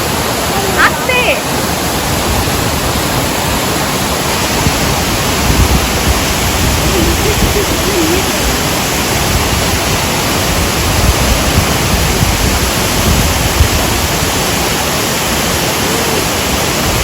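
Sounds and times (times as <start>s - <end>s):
loud waterfall roar: 0.0s - 17.0s
wind buffeting microphone: 0.0s - 17.0s.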